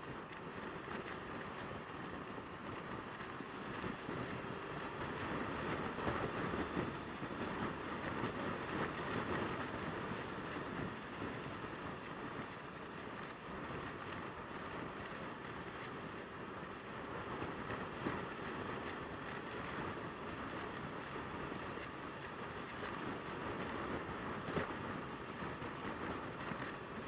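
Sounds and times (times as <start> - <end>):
wind over microphone: 0.0 - 27.0.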